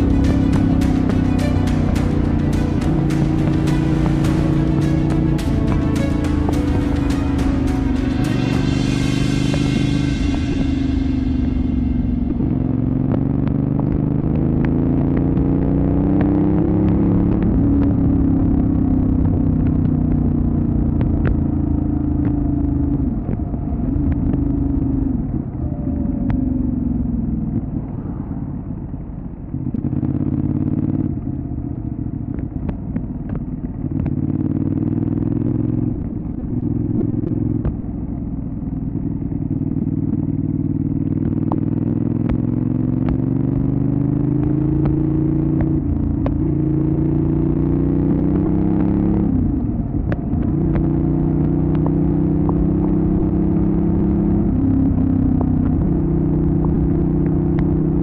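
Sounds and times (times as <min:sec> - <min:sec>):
motorcycle engine revving: 0:00.0 - 0:28.0, 0:28.9 - 0:58.0.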